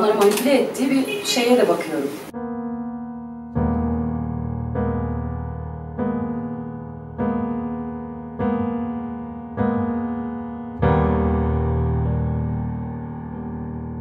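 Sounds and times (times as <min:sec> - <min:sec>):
slow piano chords: 0:02.3 - 0:14.0.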